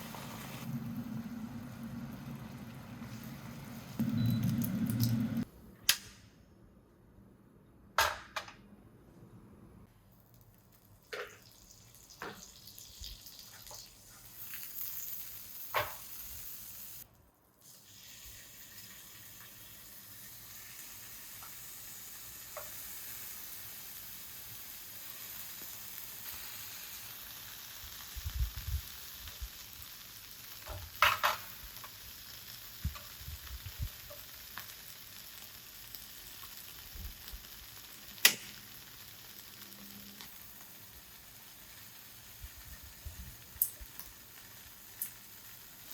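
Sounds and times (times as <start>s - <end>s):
food frying sizzle: 0.0s - 5.5s, 10.2s - 45.9s.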